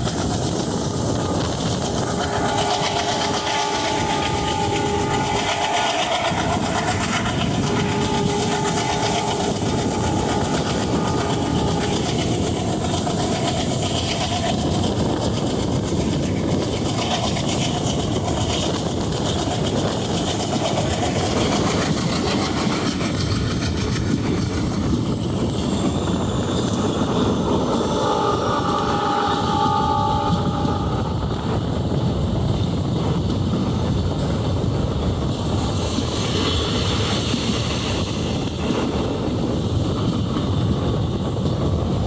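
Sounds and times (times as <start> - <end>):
train wheels clattering on rail: 0.0 - 42.0.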